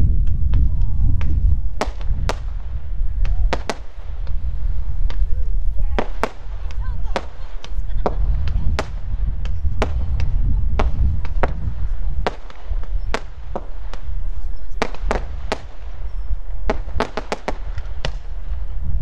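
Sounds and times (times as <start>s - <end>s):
low rumble: 0.0s - 17.0s
firework bangs and cracks: 0.0s - 19.0s.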